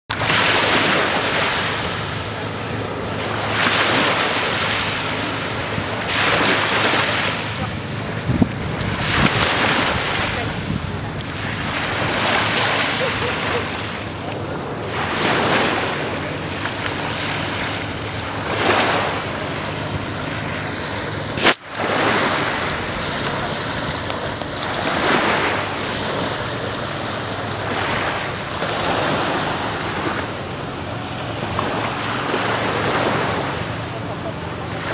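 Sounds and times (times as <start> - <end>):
waves washing onto beach: 0.1 - 34.9.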